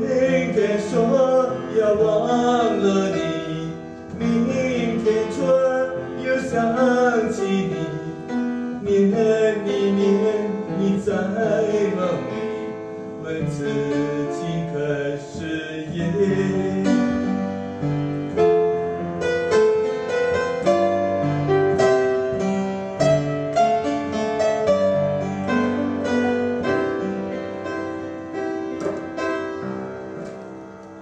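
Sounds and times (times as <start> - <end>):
slow piano ballad: 0.0 - 31.0.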